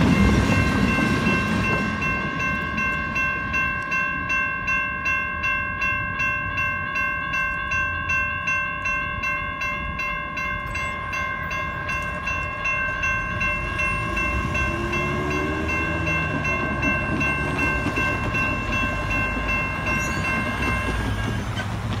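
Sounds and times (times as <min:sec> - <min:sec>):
railroad crossing bells ringing: 0:00.0 - 0:22.0
road traffic rumble: 0:00.0 - 0:22.0.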